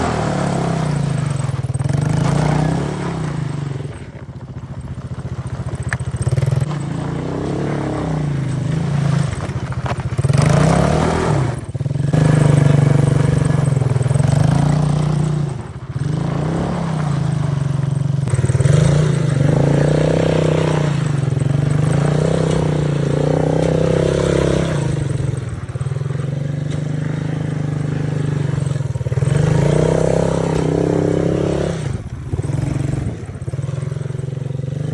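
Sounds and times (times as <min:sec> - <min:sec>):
quad bike engine revving: 0:00.0 - 0:34.9.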